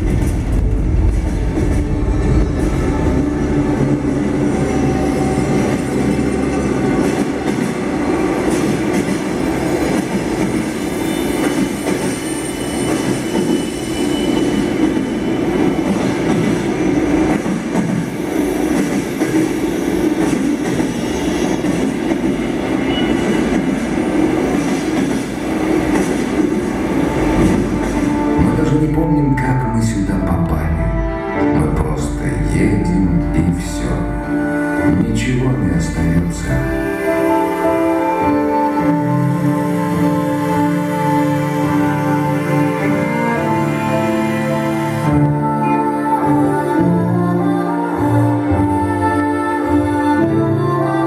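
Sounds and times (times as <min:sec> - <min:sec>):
train rumbling on rails: 0:00.0 - 0:51.0.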